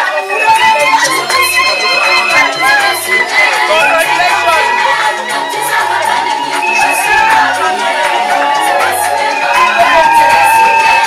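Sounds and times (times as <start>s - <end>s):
crowd noise: 0.0s - 11.0s
loud music with held bass notes: 0.0s - 11.0s.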